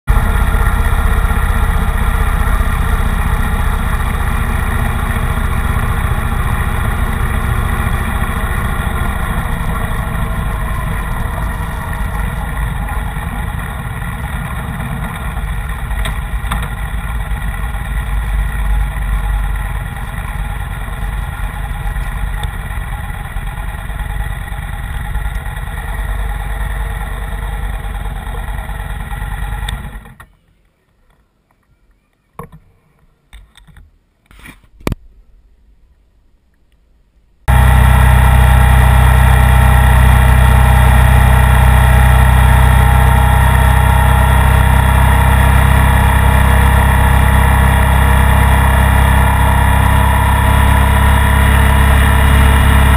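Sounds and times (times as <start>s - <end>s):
motorcycle engine running: 0.0s - 30.2s, 37.5s - 52.9s
wind and road noise: 0.1s - 31.7s, 32.4s - 52.9s.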